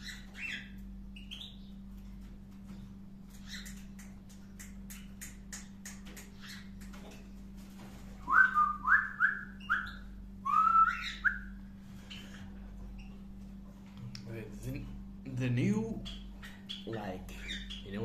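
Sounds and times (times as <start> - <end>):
pet birds chirping: 0.0 - 7.2, 8.9 - 13.6, 15.3 - 18.0
low hum: 0.0 - 18.0.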